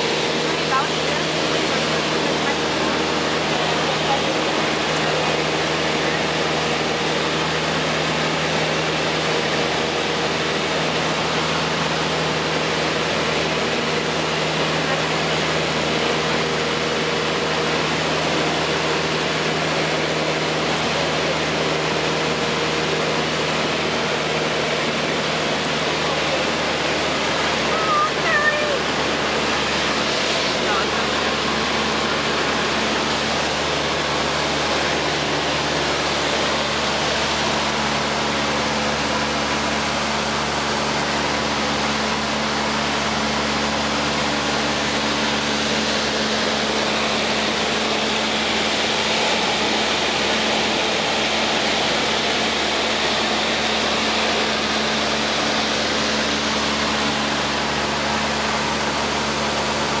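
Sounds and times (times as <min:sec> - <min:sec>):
airplane engine droning in cabin: 0:00.0 - 1:00.0.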